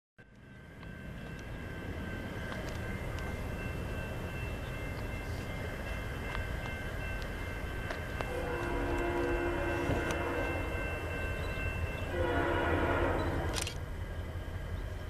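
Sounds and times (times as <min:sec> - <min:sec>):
distant freight train rumble: 0:00.2 - 0:15.0.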